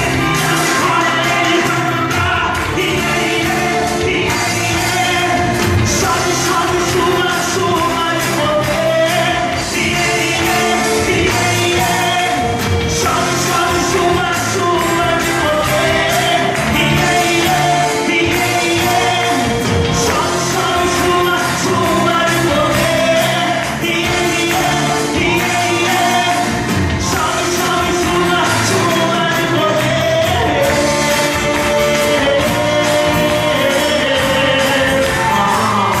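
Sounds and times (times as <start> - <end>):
full band with steady beat: 0.0 - 36.0
gospel singing: 0.0 - 36.0.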